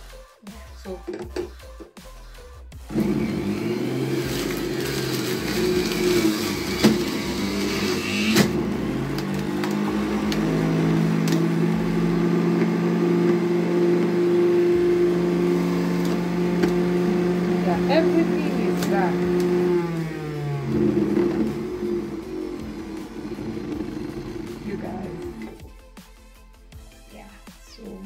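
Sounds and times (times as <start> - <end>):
juicer motor humming: 2.8 - 25.6.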